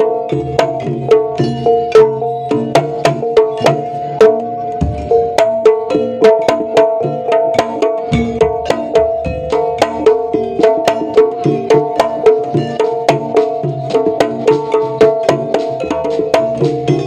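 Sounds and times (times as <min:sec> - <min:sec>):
hand drum strokes: 0:00.0 - 0:17.0.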